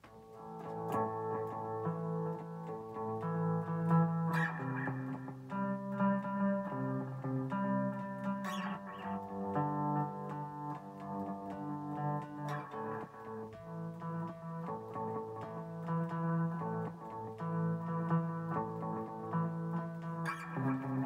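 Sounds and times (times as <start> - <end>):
guitar plucked notes and chords: 0.0 - 21.0.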